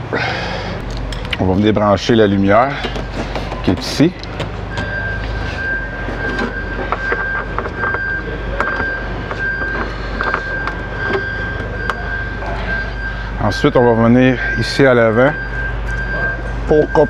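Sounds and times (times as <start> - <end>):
high-pitched whine: 0.0 - 17.0
low machine hum: 0.0 - 17.0.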